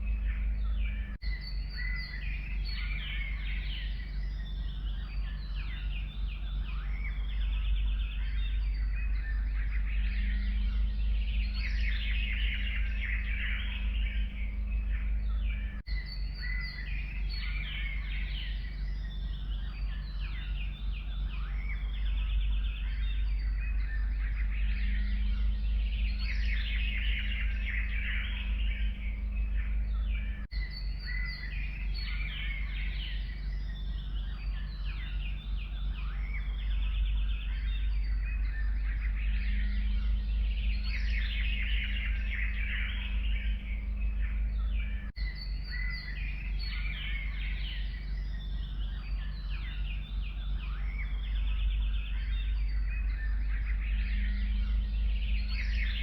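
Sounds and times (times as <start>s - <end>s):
forest birds singing: 0.0s - 56.0s
steady low rumble: 0.0s - 56.0s.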